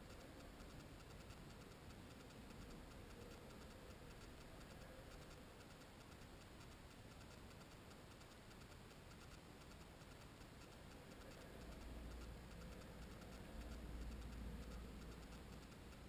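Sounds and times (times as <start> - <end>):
faint ticking: 0.0 - 16.0.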